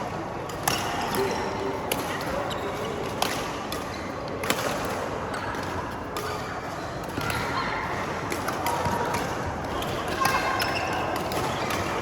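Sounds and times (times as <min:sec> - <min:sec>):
racket striking shuttlecock: 0:00.4 - 0:06.4, 0:08.3 - 0:12.0.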